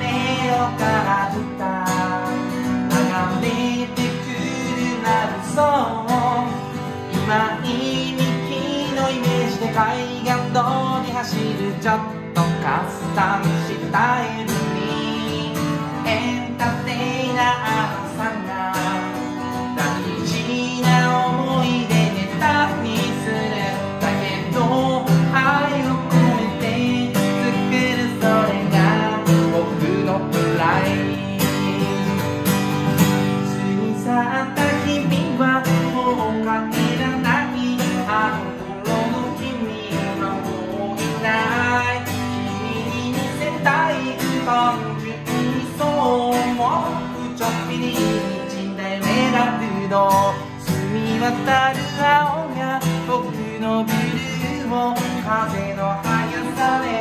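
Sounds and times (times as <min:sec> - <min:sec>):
acoustic guitar strumming: 0:00.0 - 0:57.0
person singing: 0:00.0 - 0:57.0.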